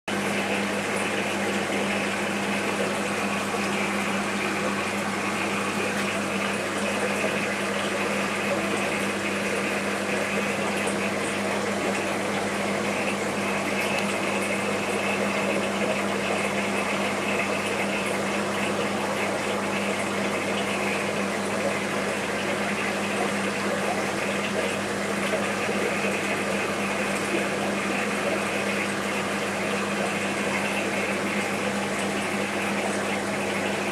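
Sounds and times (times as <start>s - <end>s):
aquarium pump humming: 0.1s - 33.9s.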